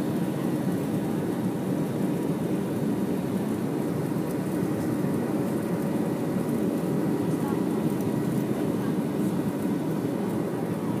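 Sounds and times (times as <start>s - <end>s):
faint engine whine: 0.0s - 11.0s
jet engine roar in cabin: 0.0s - 11.0s.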